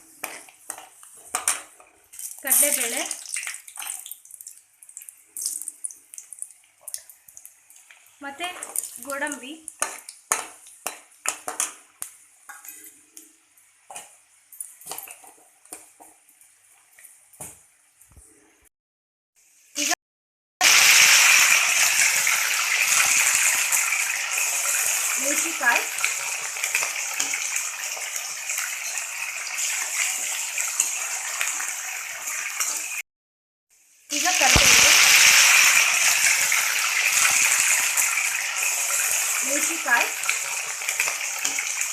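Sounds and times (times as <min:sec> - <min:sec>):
faint oil sizzle: 0:00.0 - 0:17.8, 0:20.6 - 0:33.0, 0:33.7 - 0:41.9.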